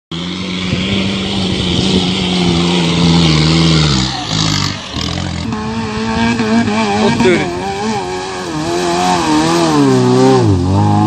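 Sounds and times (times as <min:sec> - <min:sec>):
jeep engine revving: 0:00.1 - 0:11.0.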